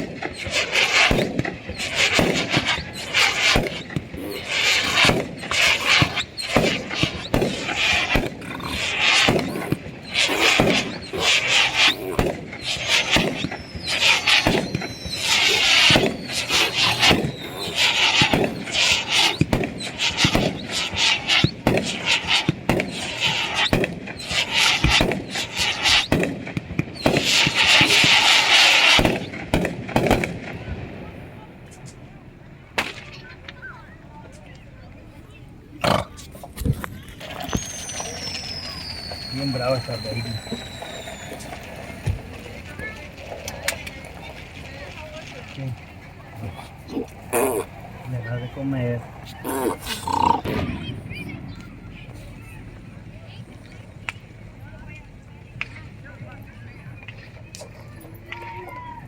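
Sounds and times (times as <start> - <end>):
fireworks hiss: 0.0 - 32.1, 35.3 - 53.0
whistling fireworks: 0.0 - 35.4, 36.4 - 59.0
fireworks bangs and crackles: 0.0 - 59.0.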